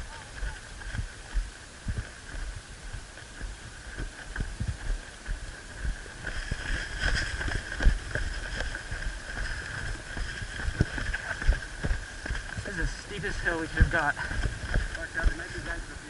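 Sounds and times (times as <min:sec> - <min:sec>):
footsteps thumping: 0:00.0 - 0:15.8.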